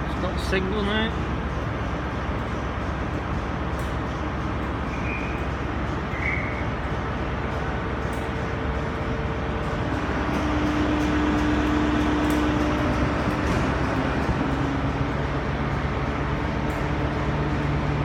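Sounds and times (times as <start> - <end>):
diesel train engine rumbling: 0.0 - 18.0.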